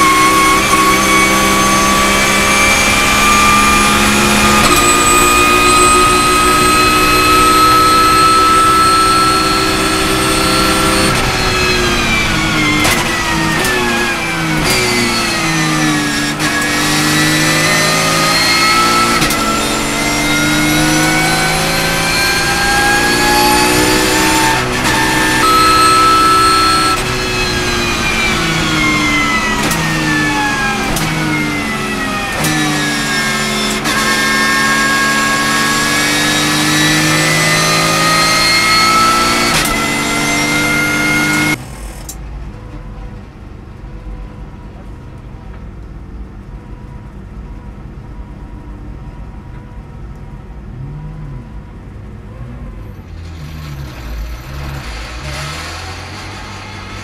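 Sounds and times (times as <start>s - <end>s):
race car engine from inside cabin: 0.0s - 57.0s.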